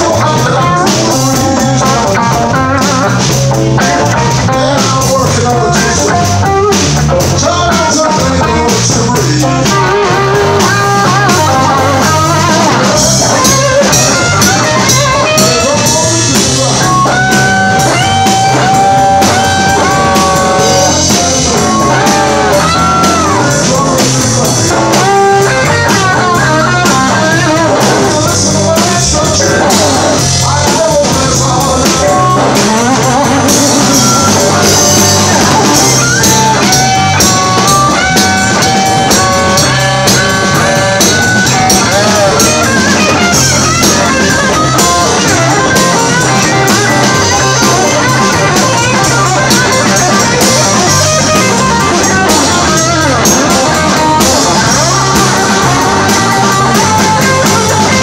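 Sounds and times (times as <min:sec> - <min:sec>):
electric guitar bending long notes: 0:00.0 - 0:58.0
live blues band playing: 0:00.0 - 0:58.0.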